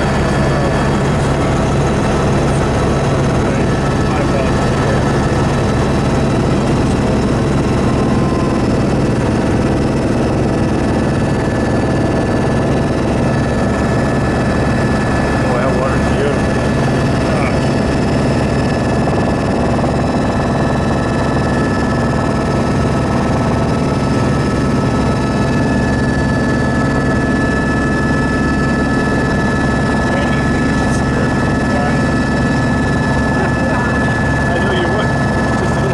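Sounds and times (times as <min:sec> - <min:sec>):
helicopter engine and rotor drone: 0:00.0 - 0:35.9.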